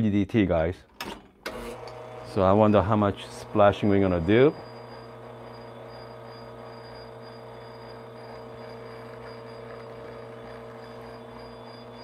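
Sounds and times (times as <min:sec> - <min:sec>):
espresso machine pump humming: 0:01.5 - 0:12.0.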